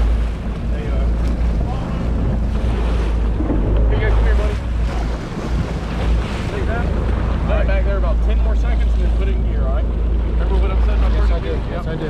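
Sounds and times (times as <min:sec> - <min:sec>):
boat engine rumbling: 0:00.0 - 0:12.0
water churning: 0:00.0 - 0:12.0
wind buffeting microphone: 0:00.0 - 0:12.0.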